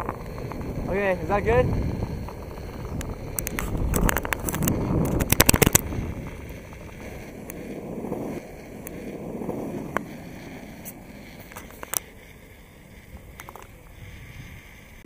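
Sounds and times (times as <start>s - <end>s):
electric skateboard rolling: 0.0s - 15.0s.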